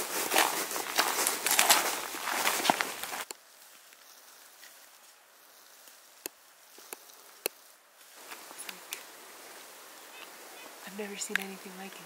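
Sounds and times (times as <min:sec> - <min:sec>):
footsteps cracking twigs: 0:00.0 - 0:10.4
rustling through brush: 0:00.0 - 0:12.0.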